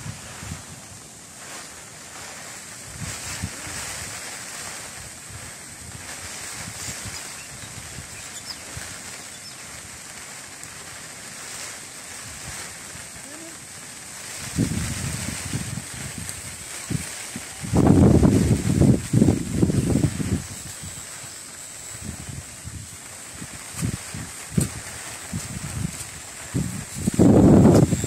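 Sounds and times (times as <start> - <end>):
wind buffeting microphone: 0.0 - 10.4, 11.4 - 28.0
steady outdoor hiss: 0.0 - 28.0.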